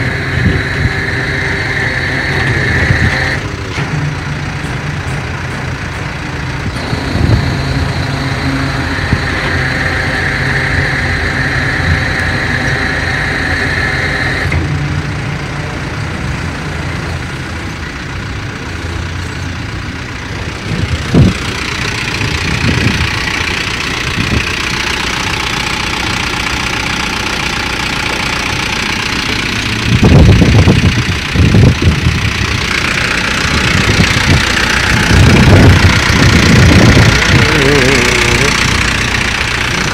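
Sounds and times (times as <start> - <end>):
higher whine: 0.0 - 16.0, 20.2 - 39.9
vehicle engine idling: 0.0 - 39.9.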